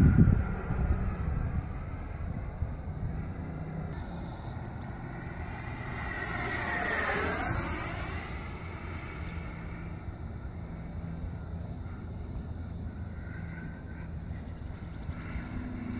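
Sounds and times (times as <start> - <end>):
electric jet fan whining: 0.0 - 15.9.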